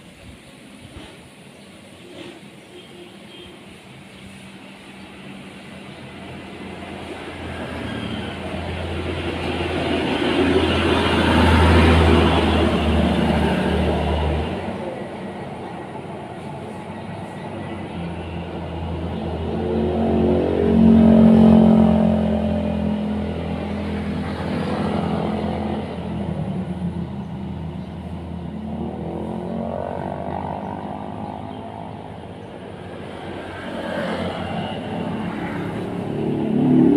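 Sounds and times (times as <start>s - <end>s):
vehicles passing on road: 0.0s - 36.9s.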